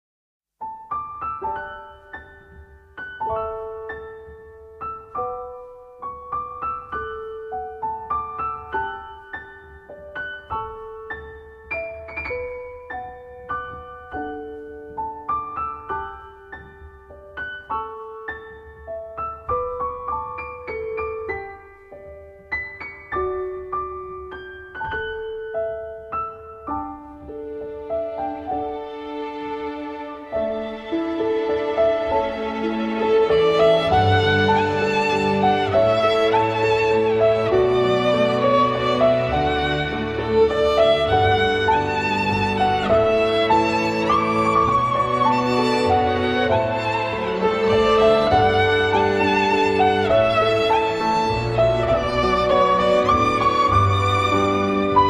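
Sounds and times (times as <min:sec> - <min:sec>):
gentle piano piece: 0:00.6 - 0:55.0.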